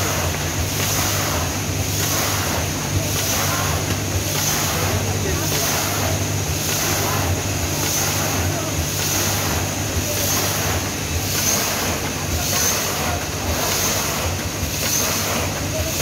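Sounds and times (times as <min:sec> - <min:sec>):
packing machine hum: 0:00.0 - 0:16.0
pulsing machine hiss: 0:00.0 - 0:16.0.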